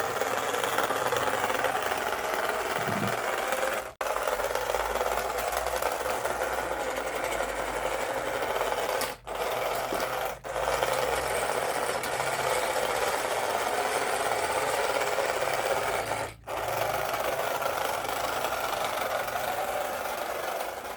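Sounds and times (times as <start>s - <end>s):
small electric motors whirring: 0.0s - 20.9s.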